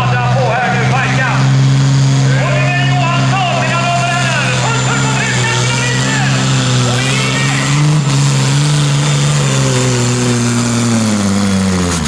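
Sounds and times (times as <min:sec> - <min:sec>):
tractor engine revving high: 0:00.0 - 0:12.0.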